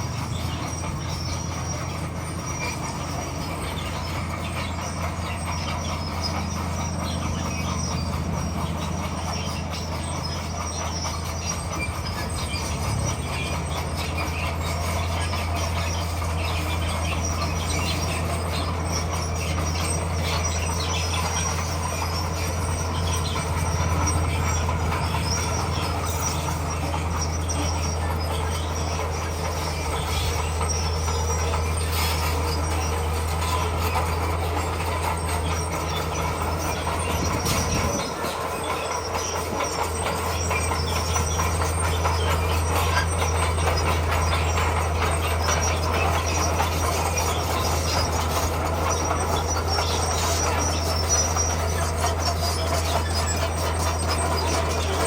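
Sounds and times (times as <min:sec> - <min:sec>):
bulldozer diesel engine under load: 0:00.0 - 0:55.0
steel tracks clanking and squealing: 0:00.0 - 0:55.0.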